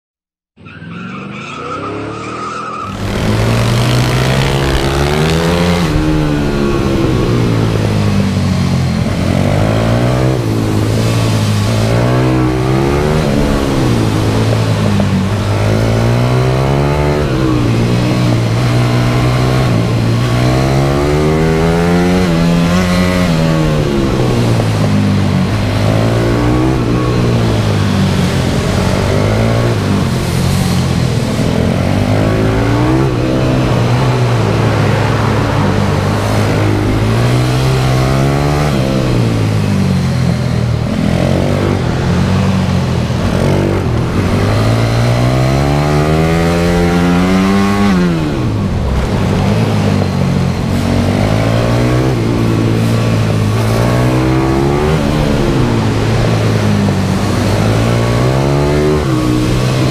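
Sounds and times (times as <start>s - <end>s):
motorbike engine revving: 2.8s - 59.9s.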